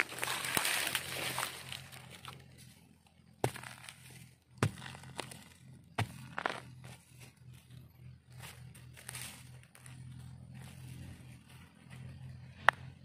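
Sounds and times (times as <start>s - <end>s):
hand digging through dry soil: 0.0s - 13.0s.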